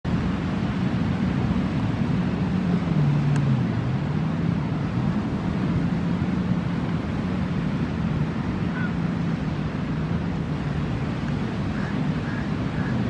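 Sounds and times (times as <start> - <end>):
wind: 0.0 - 13.0
jet ski engine droning: 0.1 - 13.0.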